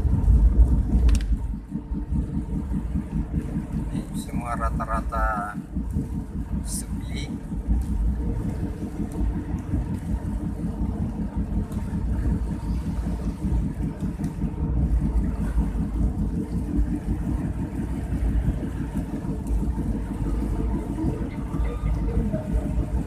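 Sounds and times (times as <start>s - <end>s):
moving car rumble: 0.0s - 23.0s.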